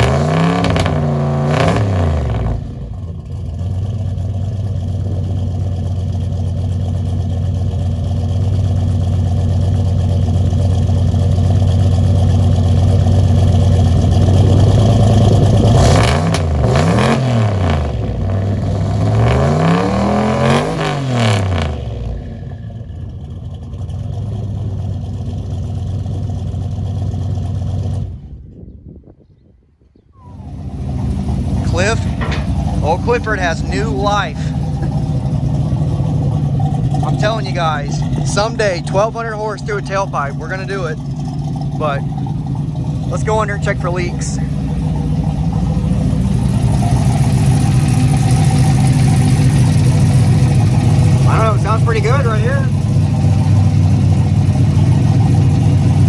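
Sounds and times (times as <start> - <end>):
engine revving: 0.0 - 23.2, 30.2 - 56.0
truck engine idling: 0.0 - 28.7, 30.2 - 56.0.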